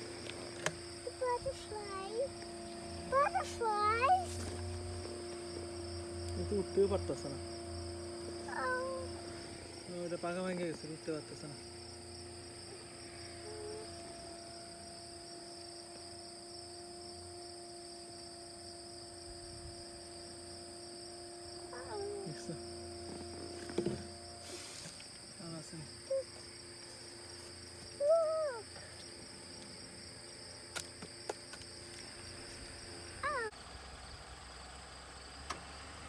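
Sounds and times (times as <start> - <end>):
insects chorus: 0.0 - 36.0.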